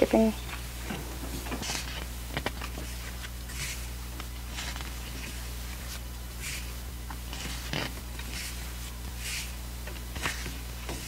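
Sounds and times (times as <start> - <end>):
paper pages turning: 1.5 - 11.0.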